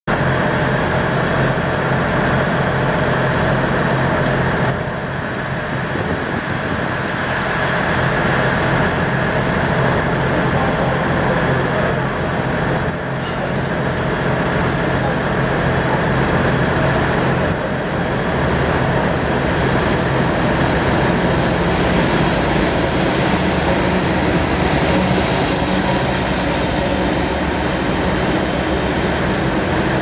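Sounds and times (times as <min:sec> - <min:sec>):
loud mechanical engine noise: 0:00.0 - 0:30.0.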